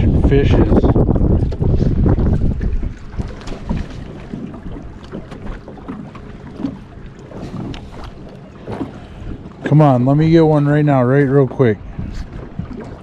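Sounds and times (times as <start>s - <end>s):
water lapping against boat hull: 0.0s - 13.0s
wind buffeting microphone: 0.0s - 13.0s.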